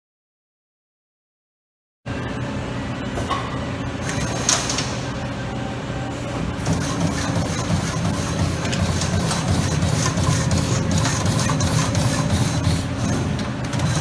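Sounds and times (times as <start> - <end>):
hydraulic unit humming: 2.1 - 14.0.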